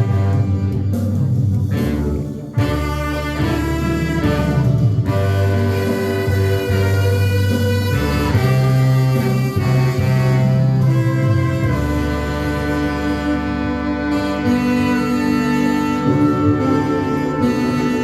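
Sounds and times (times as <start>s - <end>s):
instrumental music: 0.0s - 18.0s.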